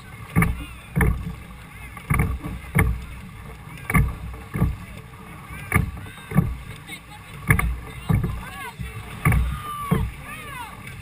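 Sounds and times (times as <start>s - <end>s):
oars knocking: 0.0s - 11.0s
water rushing along hull: 0.0s - 11.0s.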